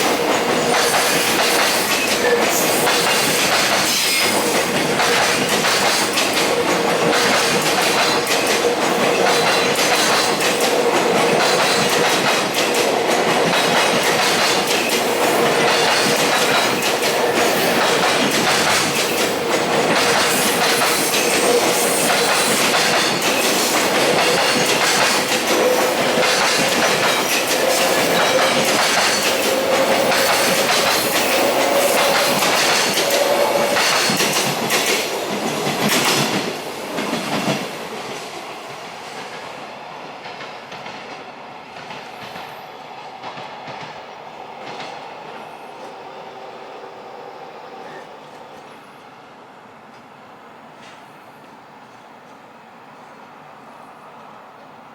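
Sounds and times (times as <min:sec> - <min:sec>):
train wheels clattering over rails: 0:00.0 - 0:46.0.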